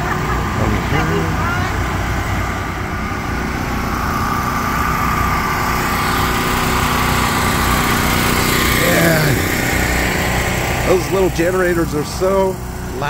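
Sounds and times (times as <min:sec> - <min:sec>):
portable generator running: 0:00.0 - 0:13.0.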